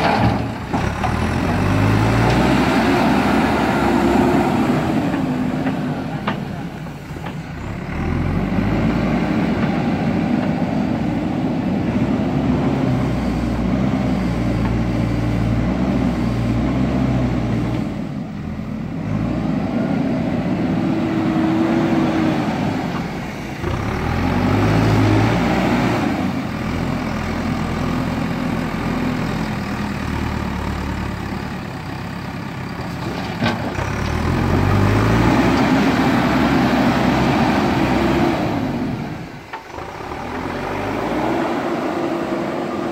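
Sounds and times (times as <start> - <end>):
diesel engine revving under load: 0.0 - 42.9.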